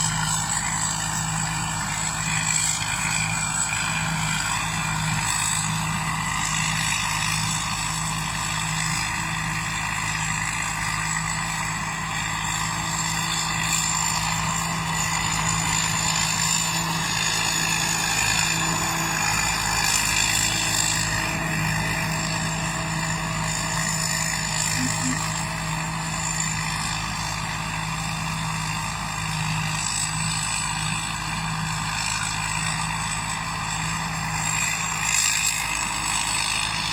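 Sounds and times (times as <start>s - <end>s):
combine harvester drone: 0.0s - 36.9s.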